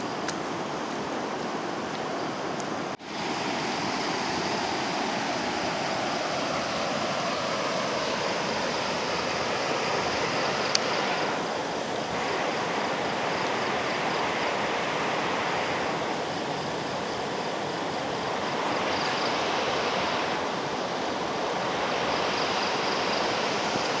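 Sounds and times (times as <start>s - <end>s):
rushing floodwater: 0.0s - 24.0s.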